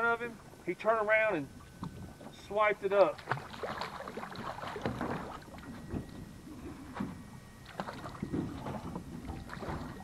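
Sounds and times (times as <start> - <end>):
water splashing and sloshing: 1.4 - 10.0.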